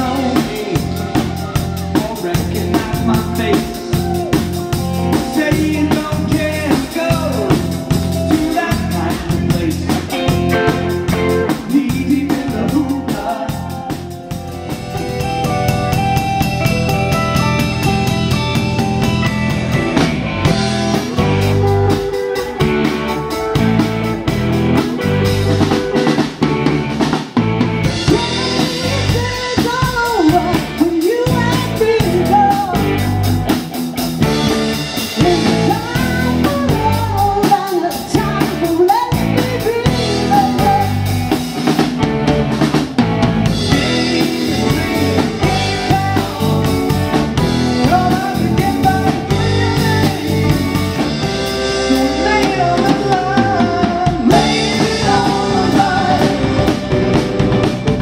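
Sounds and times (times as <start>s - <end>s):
person singing: 0.0s - 17.5s, 20.4s - 26.4s, 27.8s - 33.5s, 34.7s - 41.5s, 43.6s - 57.3s
bass and electric guitar: 0.0s - 58.0s
drum kit beat: 0.0s - 58.0s.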